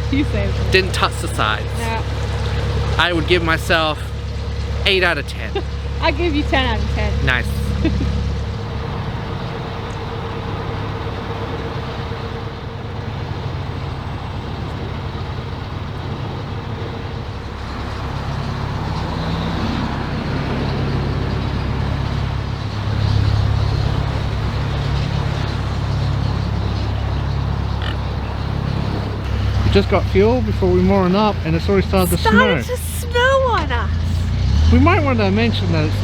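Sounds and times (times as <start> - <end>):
boat diesel engine running: 0.0 - 36.0.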